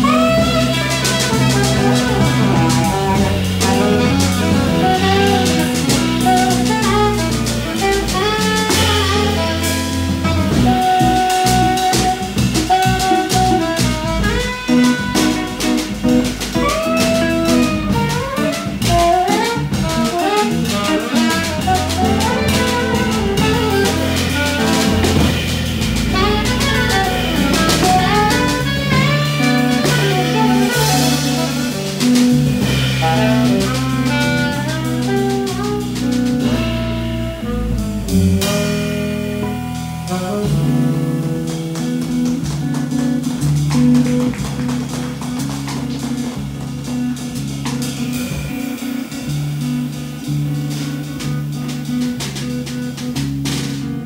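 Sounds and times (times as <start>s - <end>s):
low held notes: 0.0s - 53.0s
saxophone: 0.0s - 53.9s
drum kit: 0.0s - 54.0s.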